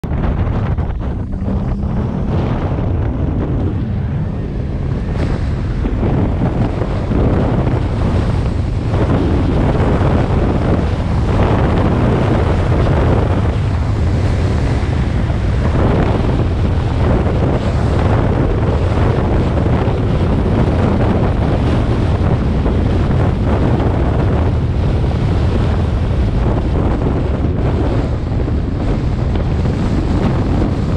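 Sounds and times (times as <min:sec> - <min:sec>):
vehicle engine rumble: 0:00.0 - 0:30.9
wind buffeting microphone: 0:00.0 - 0:30.9.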